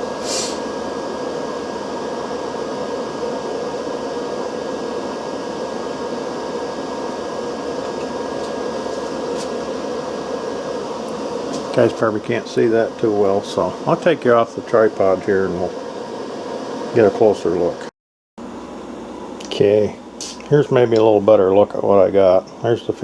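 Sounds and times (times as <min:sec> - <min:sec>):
fan whirring: 0:00.0 - 0:23.0.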